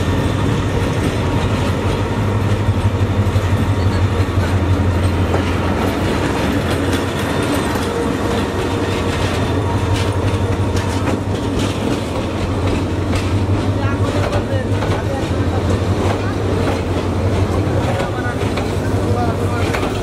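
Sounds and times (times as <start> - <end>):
diesel locomotive engine drone: 0.0 - 20.0
train wheels clicking over rail joints: 0.0 - 20.0.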